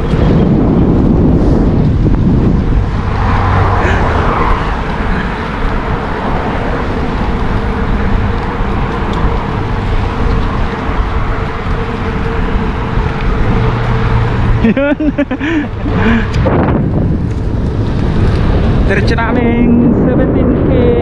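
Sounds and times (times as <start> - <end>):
faint tyre hum: 0.0 - 21.0
road rumble: 0.0 - 21.0
wind on microphone: 0.0 - 21.0.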